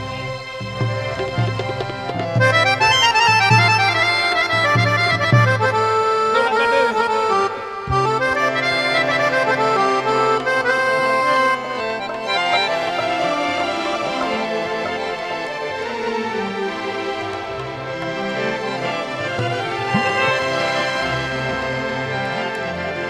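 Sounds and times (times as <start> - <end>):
harmonium melody: 0.0 - 23.0.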